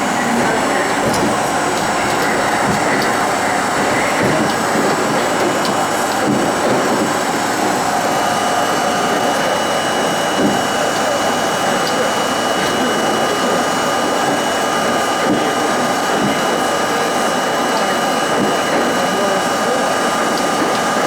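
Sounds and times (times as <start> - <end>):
subway car rumble and roar: 0.0 - 21.0.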